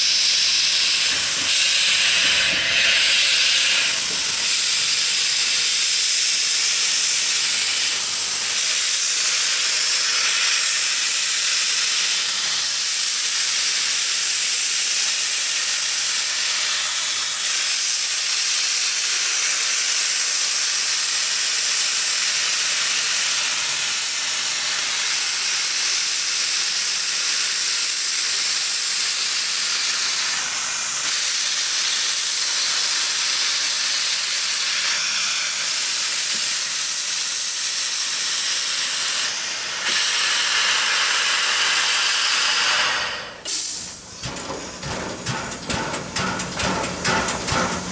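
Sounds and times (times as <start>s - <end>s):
steam locomotive venting steam: 0.0s - 47.9s.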